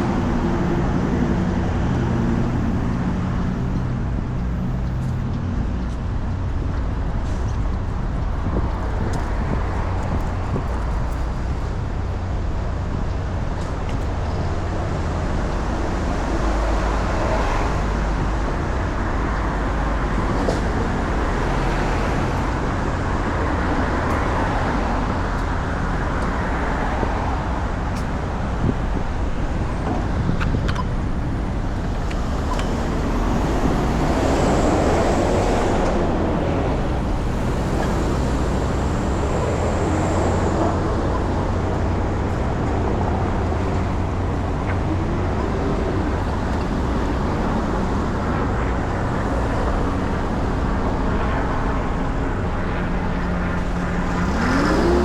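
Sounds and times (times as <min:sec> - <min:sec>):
cars passing: 0:00.0 - 0:55.0
vehicle accelerating: 0:00.0 - 0:55.0.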